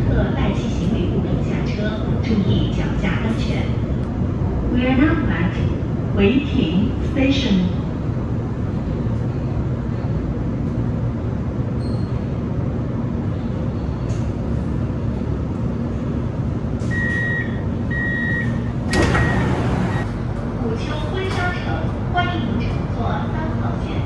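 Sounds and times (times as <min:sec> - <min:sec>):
metro car hum and rumble: 0:00.0 - 0:24.0.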